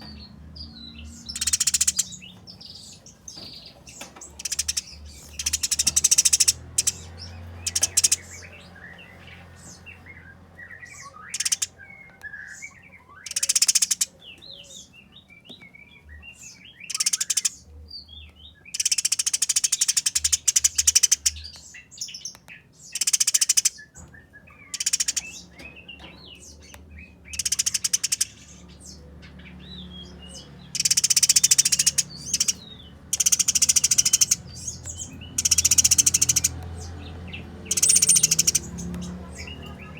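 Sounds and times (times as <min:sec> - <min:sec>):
soft bird chirps: 0:00.0 - 0:39.9
sparrows harsh chattering: 0:00.0 - 0:39.9.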